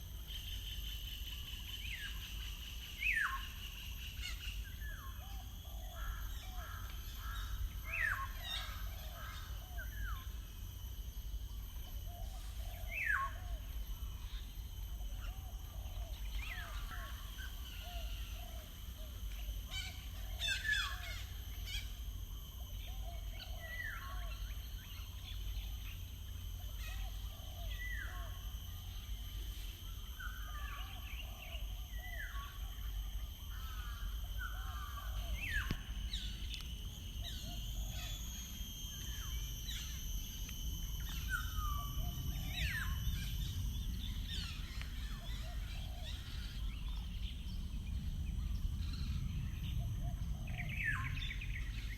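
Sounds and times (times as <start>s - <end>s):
birds singing and calling: 0.3s - 10.4s, 15.1s - 22.1s, 22.7s - 28.2s, 28.8s - 51.9s.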